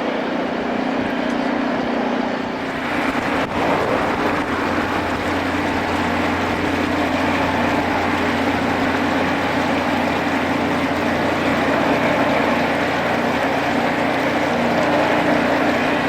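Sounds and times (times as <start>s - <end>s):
low engine hum: 0.0s - 16.0s
grinding wheels on rail: 2.2s - 16.0s.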